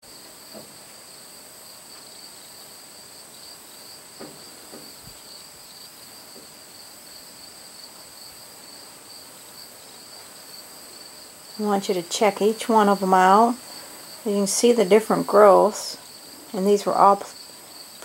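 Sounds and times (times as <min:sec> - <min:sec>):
shrill insect chirring: 0:00.1 - 0:18.0.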